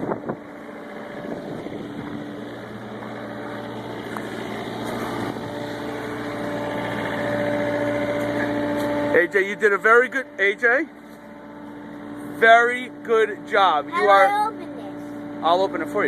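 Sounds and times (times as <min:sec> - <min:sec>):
excavator engine idling: 0:00.0 - 0:16.0.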